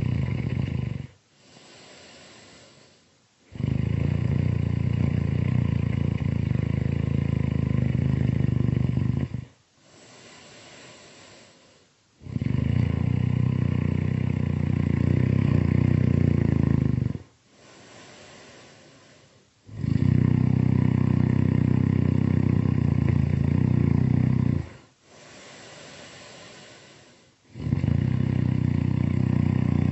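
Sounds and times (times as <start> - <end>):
cartoon snoring: 0.0 - 2.8, 3.5 - 11.5, 12.2 - 29.9.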